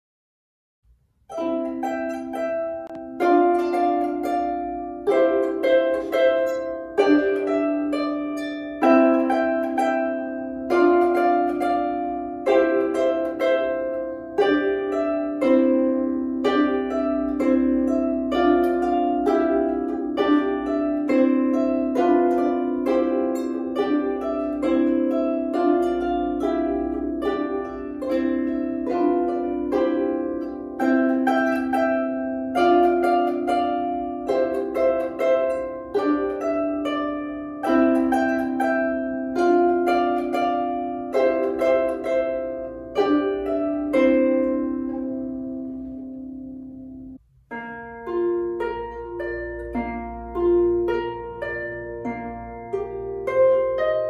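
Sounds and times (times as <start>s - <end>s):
solo harp playing: 0.9s - 54.0s.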